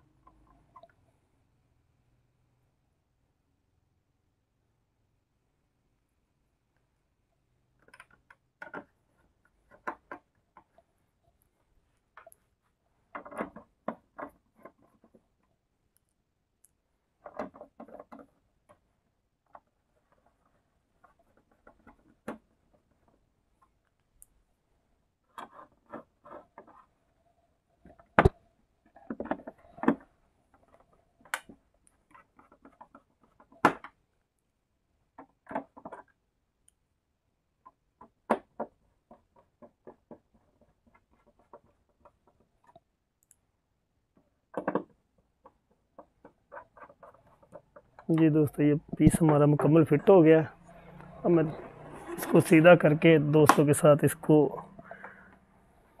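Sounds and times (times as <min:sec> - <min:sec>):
plastic parts clicking and knocking: 0:07.6 - 0:36.8, 0:37.4 - 0:56.0.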